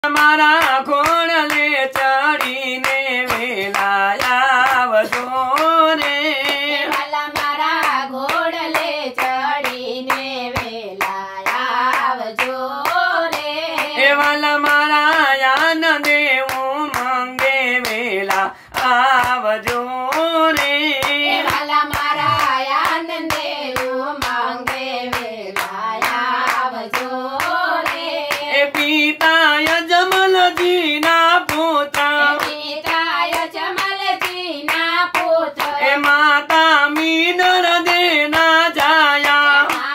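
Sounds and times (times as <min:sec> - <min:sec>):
group singing devotional song: 0:00.0 - 0:39.9
hand clapping in rhythm: 0:00.0 - 0:39.9.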